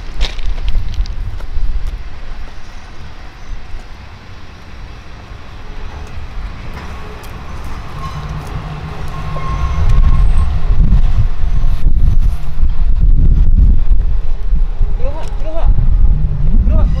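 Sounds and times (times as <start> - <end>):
diesel railcar rumbling: 0.0 - 17.0.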